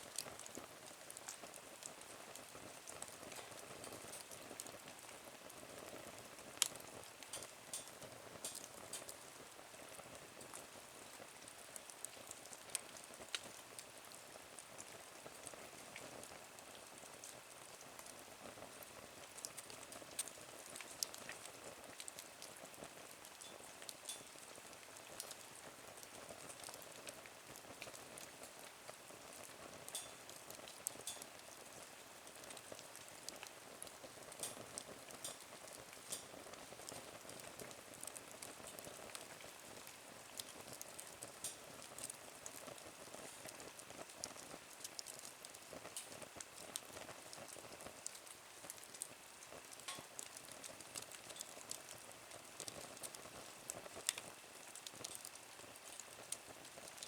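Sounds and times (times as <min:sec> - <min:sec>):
faint steady hiss: 0:00.0 - 0:57.0
wood fire crackling: 0:00.0 - 0:57.0.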